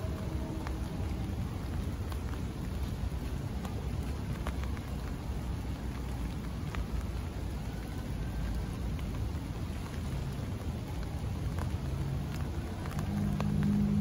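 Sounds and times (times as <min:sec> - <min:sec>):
light rain falling: 0:00.0 - 0:14.0
raindrops tapping on umbrella: 0:00.0 - 0:14.0.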